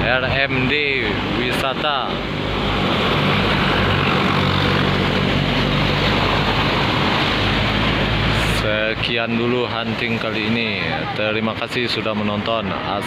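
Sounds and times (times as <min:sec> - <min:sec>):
diesel engine drone: 0:00.0 - 0:13.0
road and traffic noise: 0:00.0 - 0:13.0.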